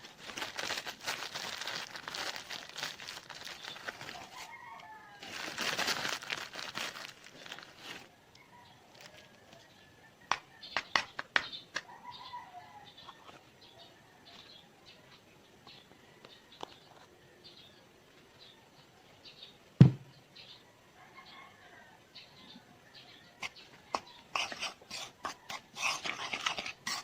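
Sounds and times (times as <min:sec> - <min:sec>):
faint birds chirping: 0:00.0 - 0:26.8.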